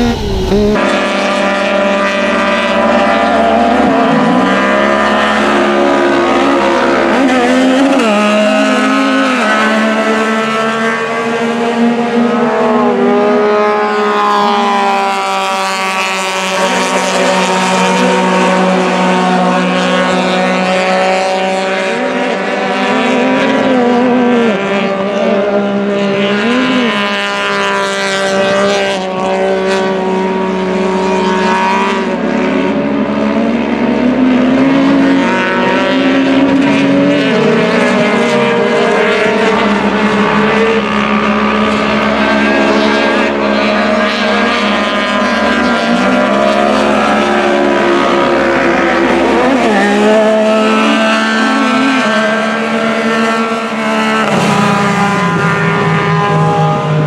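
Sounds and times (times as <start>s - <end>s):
race engines accelerating: 0.0s - 57.0s.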